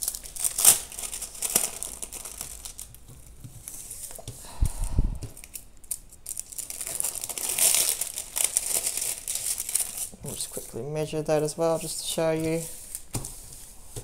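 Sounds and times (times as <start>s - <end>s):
plastic sleeve crinkling: 0.0s - 4.3s, 5.4s - 14.0s.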